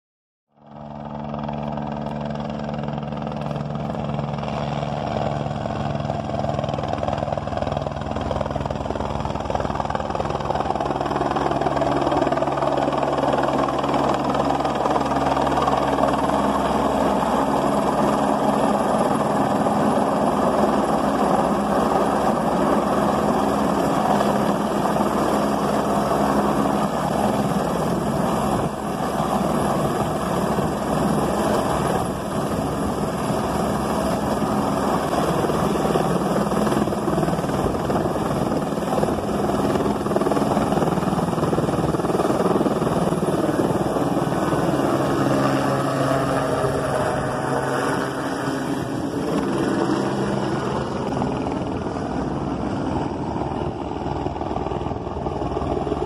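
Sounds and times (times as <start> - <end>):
helicopter rotor and engine drone: 0.5 - 56.0.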